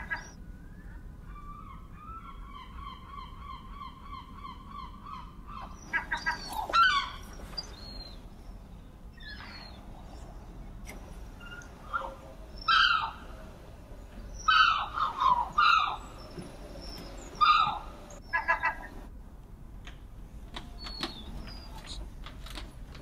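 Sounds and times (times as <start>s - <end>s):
gulls calling: 0.0s - 19.1s.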